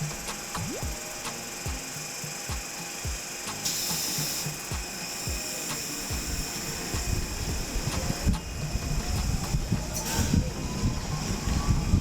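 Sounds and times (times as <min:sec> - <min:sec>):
steady high hiss: 0:00.0 - 0:10.2.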